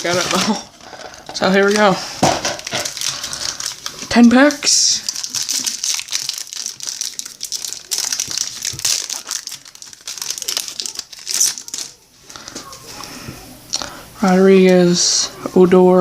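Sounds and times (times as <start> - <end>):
plastic wrappers crinkling: 0.0 - 15.1.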